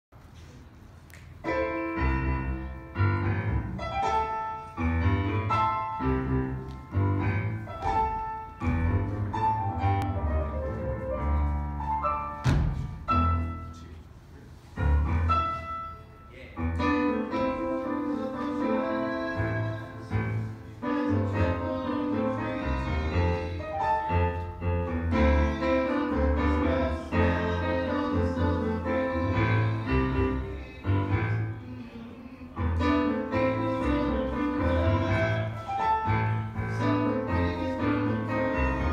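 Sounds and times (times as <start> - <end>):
upbeat piano accompaniment: 1.3 - 13.9, 14.7 - 38.9.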